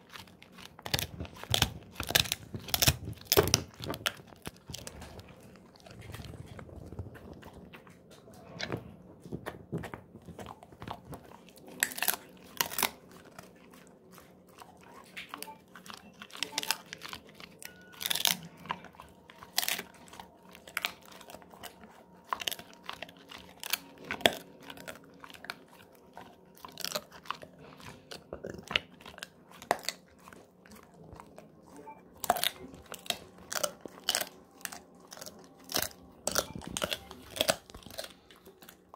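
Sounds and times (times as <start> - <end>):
dog chewing hard chew: 0.0 - 38.9.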